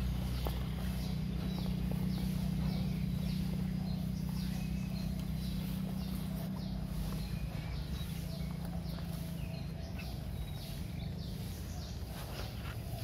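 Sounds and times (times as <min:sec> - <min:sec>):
bird chirping: 0:00.0 - 0:13.0
steady low hum: 0:00.0 - 0:13.0.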